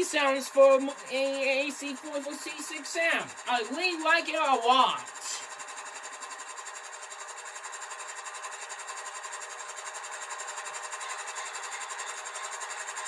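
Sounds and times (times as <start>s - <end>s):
model train diesel engine sound: 0.0s - 13.0s.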